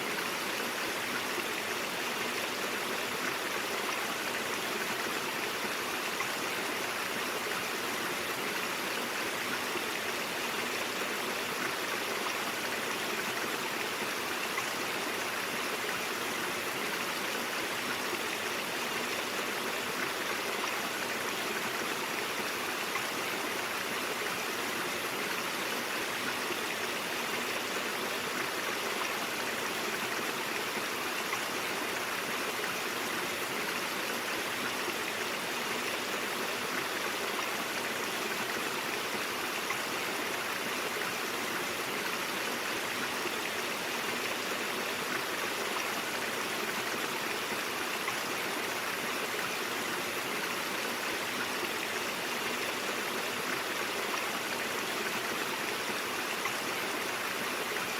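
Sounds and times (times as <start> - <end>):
brook water flowing: 0.0 - 57.9.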